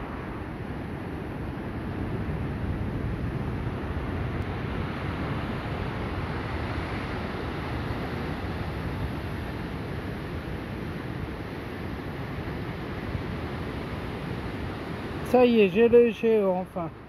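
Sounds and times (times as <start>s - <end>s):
sea surf: 0.0s - 17.0s
wind rushing over microphone: 0.0s - 17.0s.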